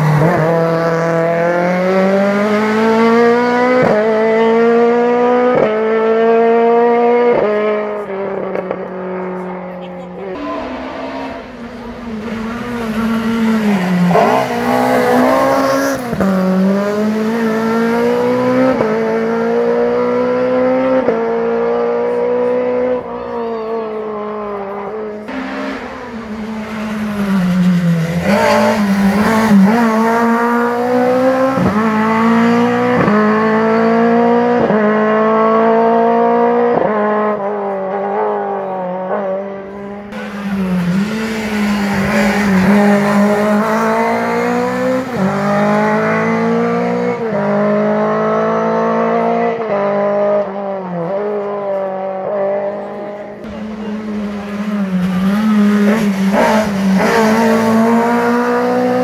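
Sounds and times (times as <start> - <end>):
rally car engine at full throttle: 0.0 - 59.0.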